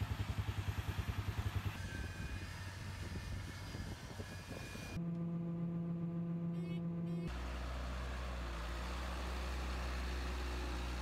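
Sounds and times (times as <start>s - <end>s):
diesel engine running steadily: 0.0s - 11.0s
tractor engines running: 0.0s - 11.0s.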